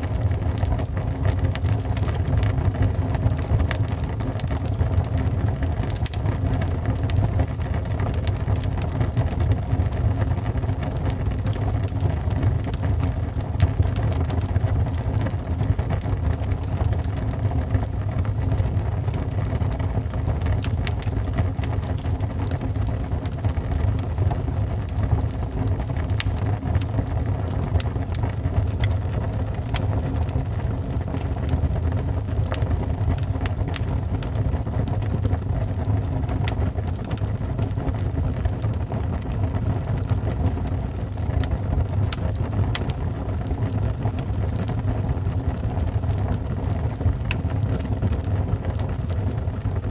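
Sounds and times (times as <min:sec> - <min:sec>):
fire crackling and popping: 0:00.0 - 0:49.9
fire flames rumbling: 0:00.0 - 0:49.9.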